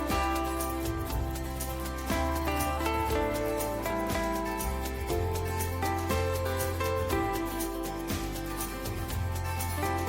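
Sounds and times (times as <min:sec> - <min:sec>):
gentle plucked music with bass: 0:00.0 - 0:10.0.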